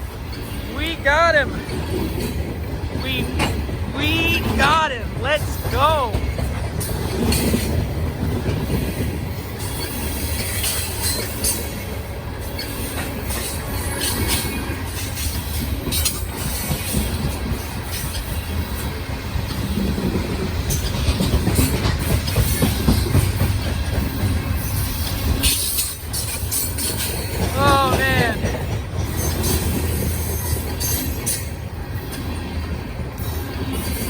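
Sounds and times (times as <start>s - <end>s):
train wheels rolling on rails: 0.0s - 34.0s.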